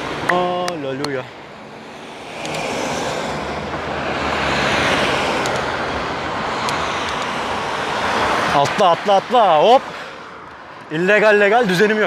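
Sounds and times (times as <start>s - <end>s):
vehicle passing: 0.9s - 10.9s.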